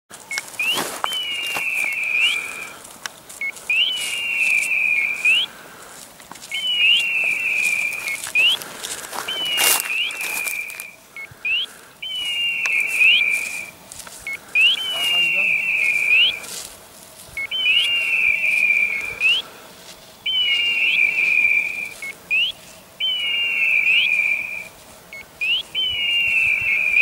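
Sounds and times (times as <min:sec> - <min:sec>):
beeper collar beeping: 0:00.3 - 0:02.7, 0:03.4 - 0:05.5, 0:06.5 - 0:08.6, 0:09.3 - 0:16.6, 0:17.3 - 0:19.4, 0:20.2 - 0:27.0.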